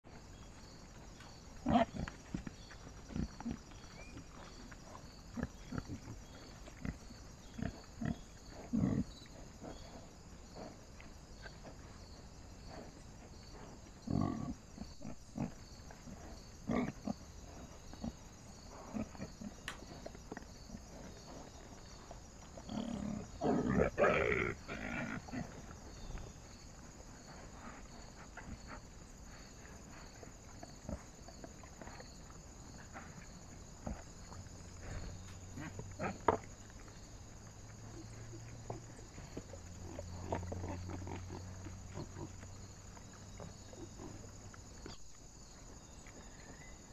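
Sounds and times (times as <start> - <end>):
boars grunting and snuffling: 0.0 - 46.9.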